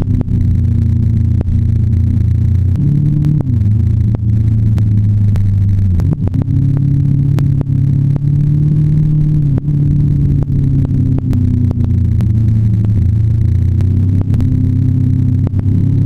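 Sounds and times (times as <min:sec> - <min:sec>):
motorcycle engine running: 0:00.0 - 0:16.0
sharp ticks: 0:00.0 - 0:16.0.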